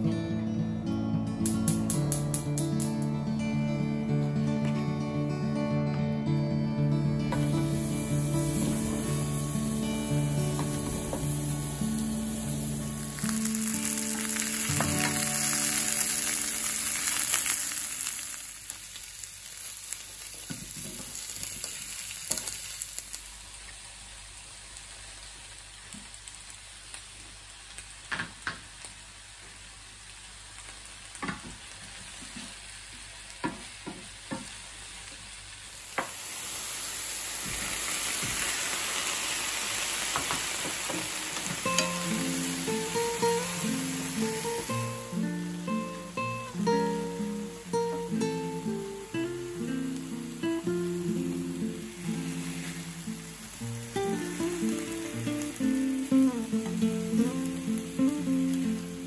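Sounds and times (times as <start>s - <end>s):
vegetables sizzling in a pan: 1.4s - 5.2s, 6.2s - 59.0s.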